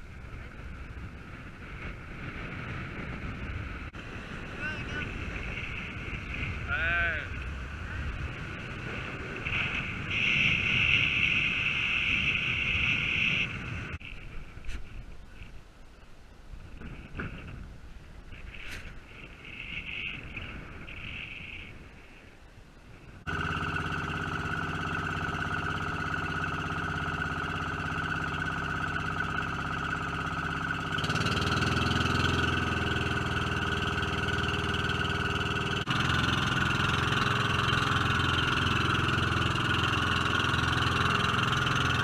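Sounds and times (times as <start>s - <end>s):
boat engine droning with whine: 0.0s - 15.5s, 18.3s - 42.0s.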